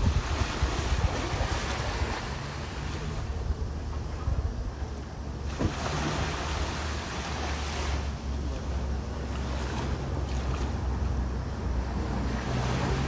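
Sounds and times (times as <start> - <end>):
ocean surf washing in: 0.0 - 3.5, 5.4 - 13.0
wind buffeting microphone: 0.0 - 13.0.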